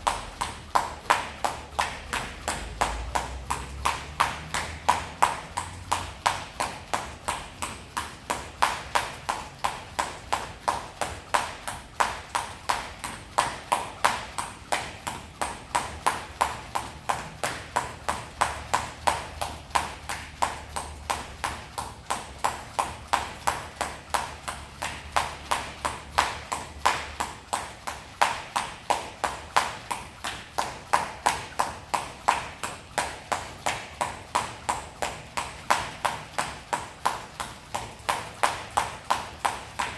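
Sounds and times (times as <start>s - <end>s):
jump rope slapping floor: 0.0s - 39.9s.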